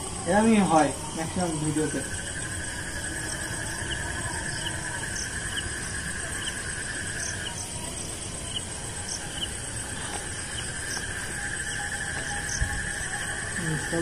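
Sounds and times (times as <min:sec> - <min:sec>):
insect steady trill: 0:00.0 - 0:14.0
short insect chirps: 0:00.0 - 0:14.0.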